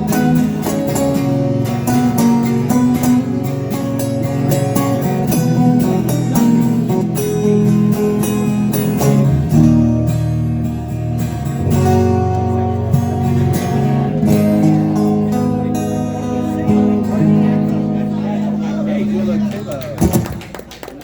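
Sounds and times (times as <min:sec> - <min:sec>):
guitars strumming chords: 0:00.0 - 0:20.4.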